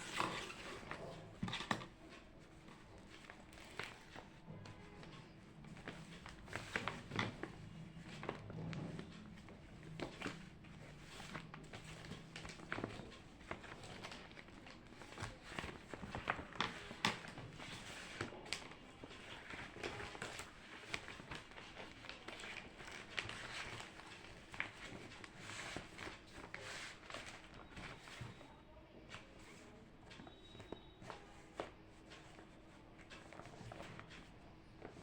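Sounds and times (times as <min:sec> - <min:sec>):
light taps clicks and rustles: 0:00.2 - 0:28.5.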